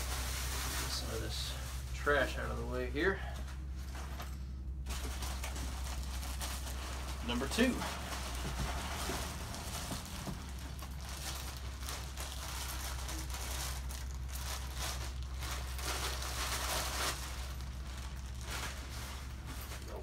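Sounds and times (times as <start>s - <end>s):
plastic bag crinkling: 0.0s - 2.3s, 4.9s - 20.0s
steady low hum: 0.0s - 20.0s.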